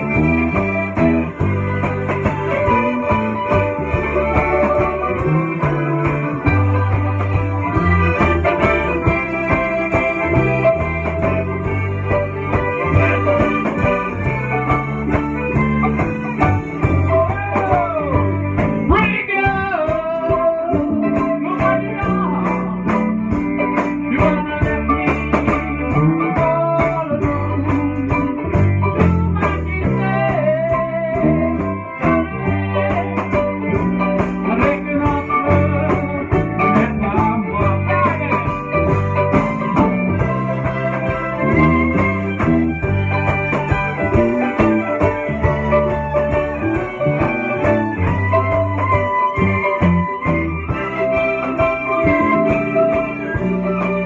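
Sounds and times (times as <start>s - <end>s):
live folk-rock band playing: 0.0s - 54.0s.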